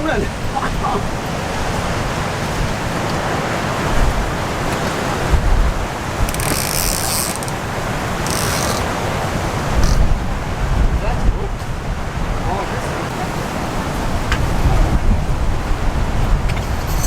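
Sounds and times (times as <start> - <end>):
surf: 0.0 - 17.0
wind gusting over microphone: 0.0 - 17.0.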